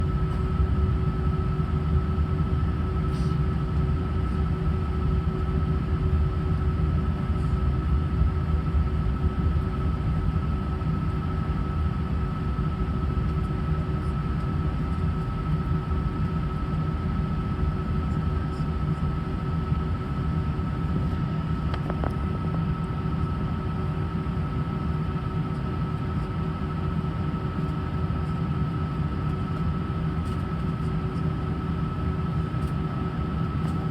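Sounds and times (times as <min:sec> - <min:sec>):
airliner cabin rumble: 0:00.0 - 0:33.9
constant cabin whine: 0:00.0 - 0:33.9.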